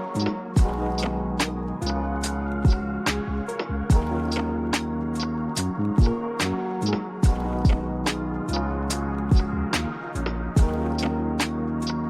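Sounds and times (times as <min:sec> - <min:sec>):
electronic beat music: 0:00.0 - 0:12.0.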